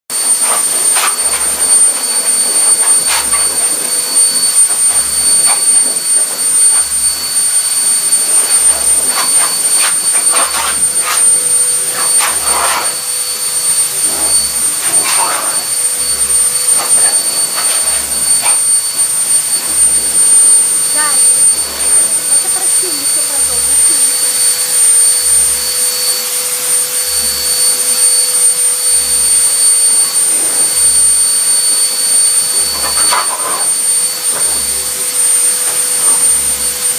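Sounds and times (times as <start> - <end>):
hair dryer blowing: 0.1 - 36.9.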